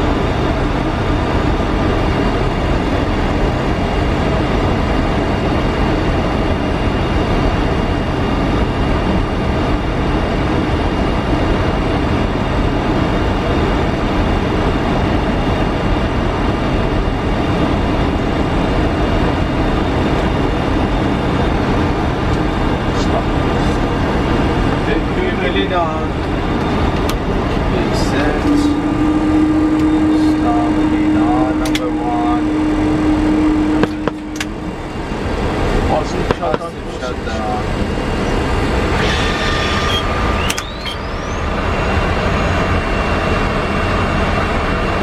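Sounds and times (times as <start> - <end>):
aircraft engines idling: 0.0 - 45.0.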